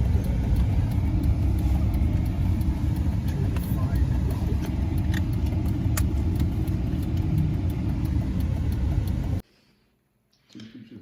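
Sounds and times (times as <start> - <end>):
vehicle engine and tyre rumble: 0.0 - 9.4.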